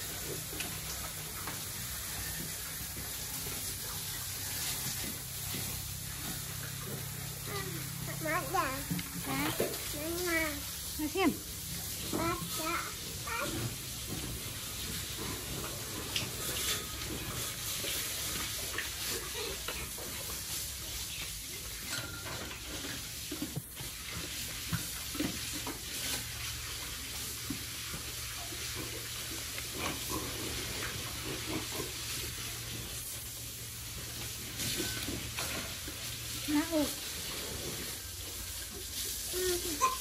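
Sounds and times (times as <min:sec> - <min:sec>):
running water hissing: 0:00.0 - 0:40.0.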